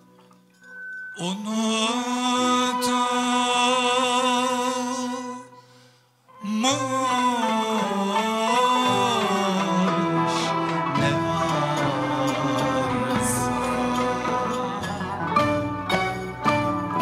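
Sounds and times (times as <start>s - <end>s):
man singing with vibrato: 1.2s - 15.6s.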